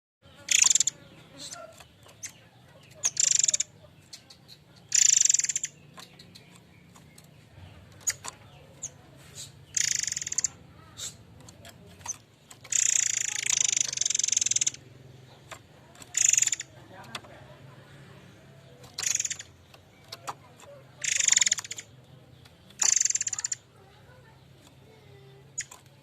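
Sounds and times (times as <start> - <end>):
songbird trilling: 0.2 - 26.0
bird call notes: 0.3 - 7.1, 7.7 - 11.3, 12.0 - 17.8, 18.4 - 23.7.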